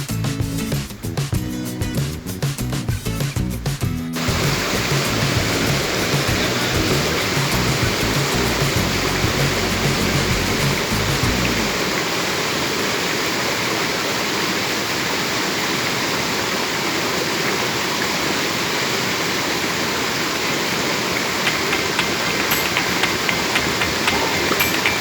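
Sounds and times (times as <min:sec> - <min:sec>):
waterfall rushing: 0:04.2 - 0:25.0.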